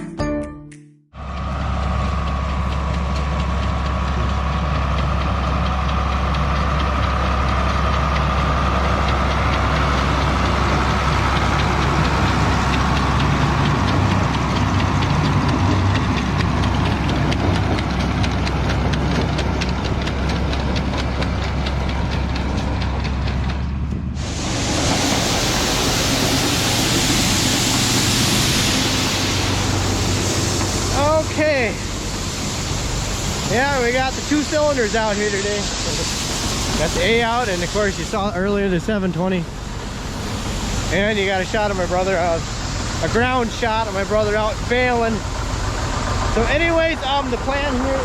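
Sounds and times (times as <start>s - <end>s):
tractor engine running: 1.2s - 48.0s.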